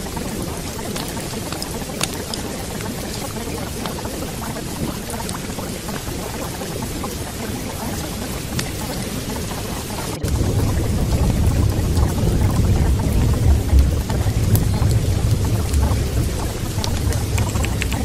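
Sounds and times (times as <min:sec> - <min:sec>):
rain-like water noise: 0:00.0 - 0:18.0
water dripping ticks: 0:00.0 - 0:18.0.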